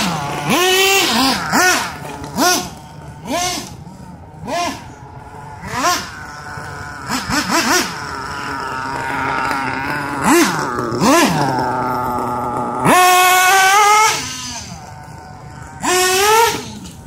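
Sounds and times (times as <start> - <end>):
model car engine revving: 0.0 - 17.0.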